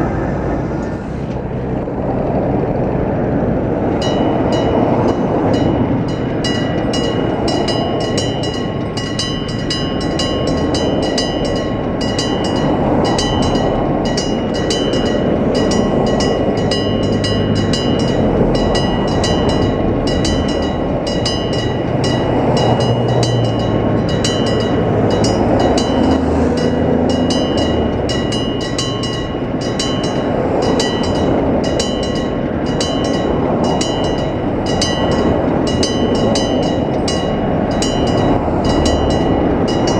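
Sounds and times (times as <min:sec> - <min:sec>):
train rumbling past: 0:00.0 - 0:39.9
level-crossing alarm bell ringing: 0:04.0 - 0:39.9.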